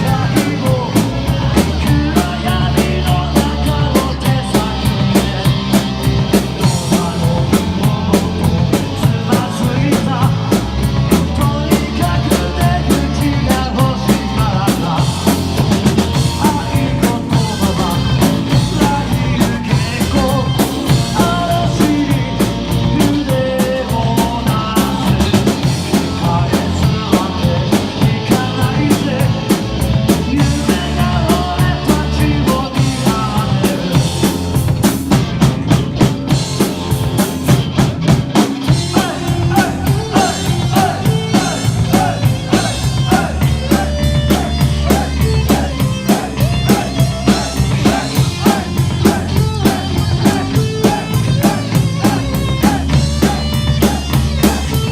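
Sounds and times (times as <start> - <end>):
drum kit driving beat: 0.0 - 54.9
rock band instrumental: 0.0 - 54.9.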